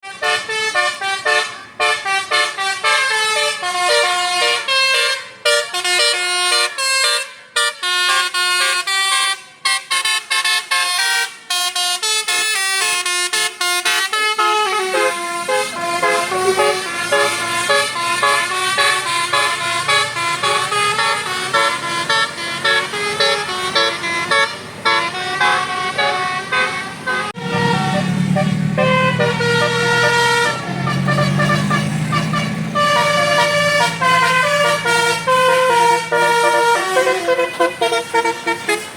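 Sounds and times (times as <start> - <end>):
bus engine rumble: 0.0 - 38.9
melodic bus horn: 0.0 - 38.9.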